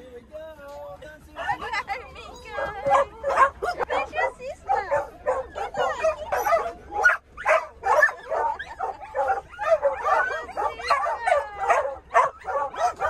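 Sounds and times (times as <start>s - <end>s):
dogs barking and whining: 1.4s - 13.0s.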